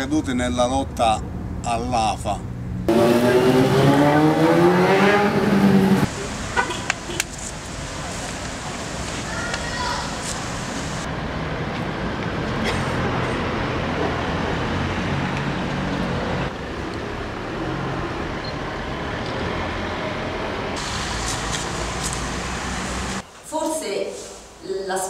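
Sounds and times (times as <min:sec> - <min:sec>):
traffic noise: 0:00.0 - 0:24.8.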